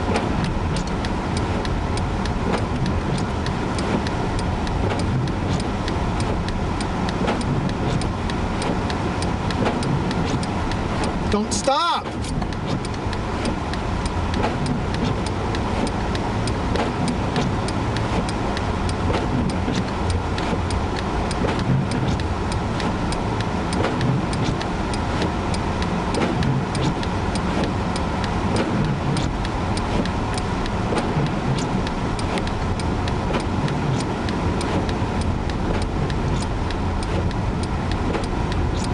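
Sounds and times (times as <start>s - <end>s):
engine and road rumble: 0.0s - 38.9s
sharp ticks: 0.0s - 38.9s.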